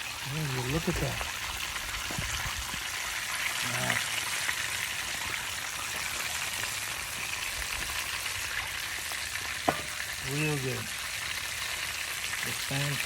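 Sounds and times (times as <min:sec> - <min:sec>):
fish sizzling and crackling: 0:00.0 - 0:13.0.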